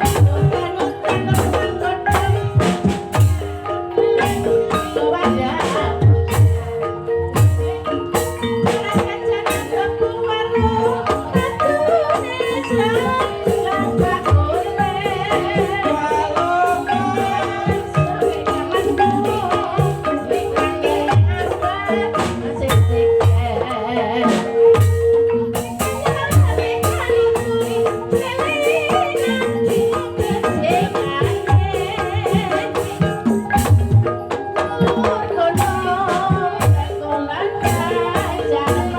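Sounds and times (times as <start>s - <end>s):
mallet percussion ensemble: 0.0s - 38.9s.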